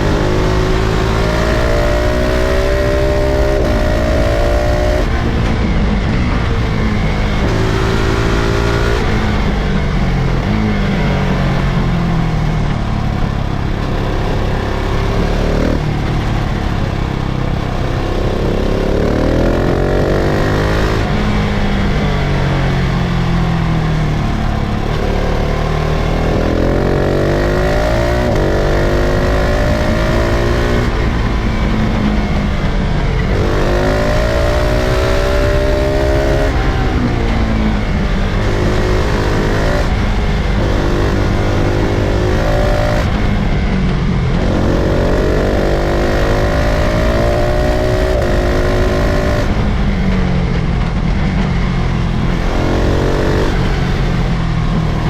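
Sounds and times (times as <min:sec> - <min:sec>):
motorcycle engine accelerating hard: 0:00.0 - 0:55.0.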